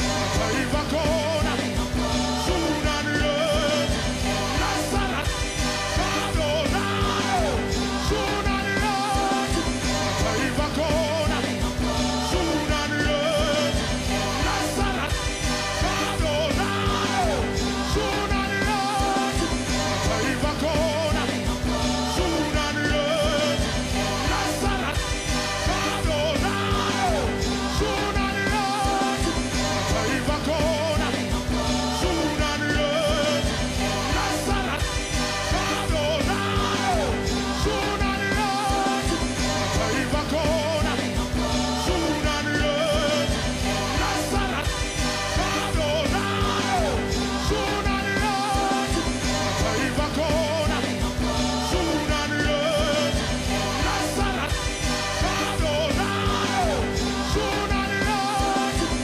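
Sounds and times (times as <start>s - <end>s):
song with singing over band: 0.0s - 59.0s.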